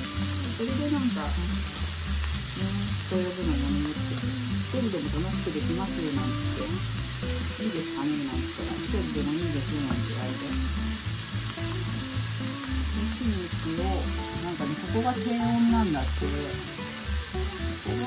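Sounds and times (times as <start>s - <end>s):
background music with bass line: 0.0s - 18.0s
meat sizzling on a grill plate: 0.0s - 18.0s.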